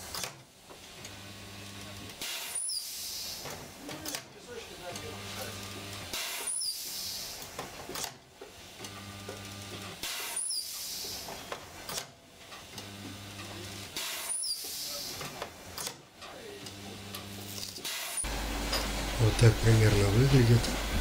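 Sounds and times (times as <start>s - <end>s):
spot welder humming: 0.0s - 21.0s.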